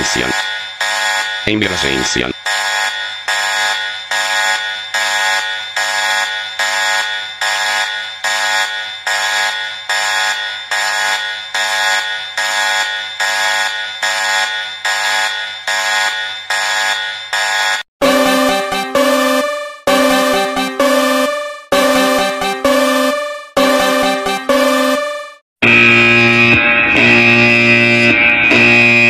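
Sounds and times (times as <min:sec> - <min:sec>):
buzzy electronic alarm beeps: 0:00.0 - 0:29.0.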